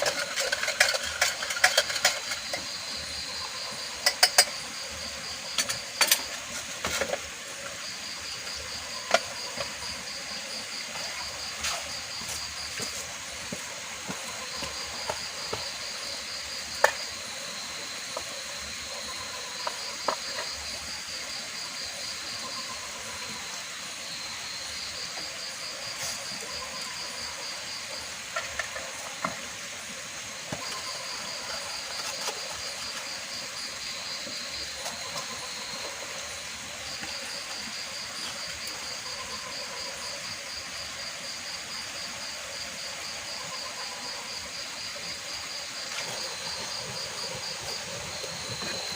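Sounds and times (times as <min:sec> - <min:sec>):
insects trilling: 0:00.0 - 0:48.9
water hiss: 0:00.0 - 0:48.9.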